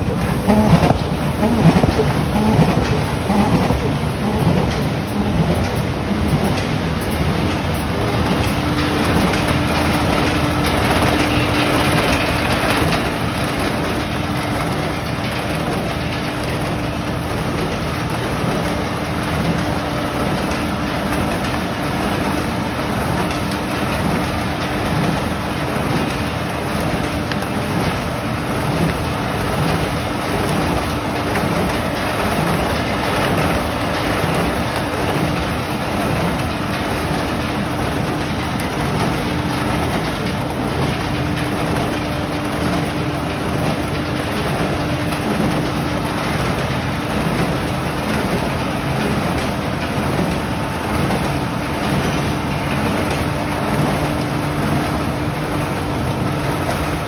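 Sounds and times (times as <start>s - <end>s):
printing machine clatter and rumble: 0.0s - 57.0s.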